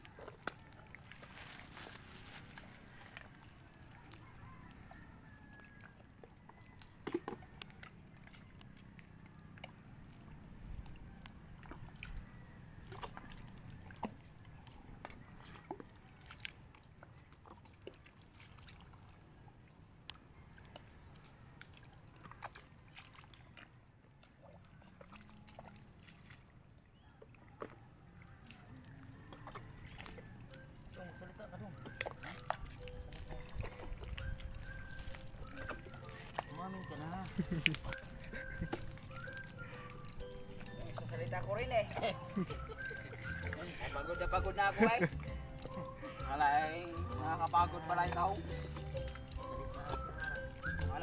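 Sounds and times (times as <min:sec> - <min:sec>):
squelching and sloshing in mud: 0:00.0 - 0:51.0.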